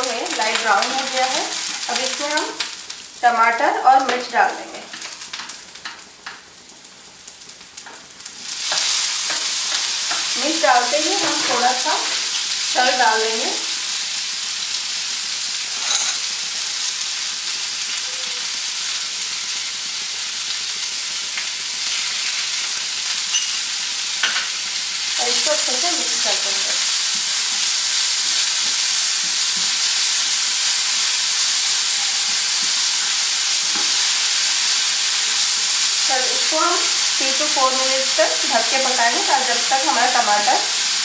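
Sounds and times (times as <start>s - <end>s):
vegetables sizzling in hot oil: 0.0s - 41.0s.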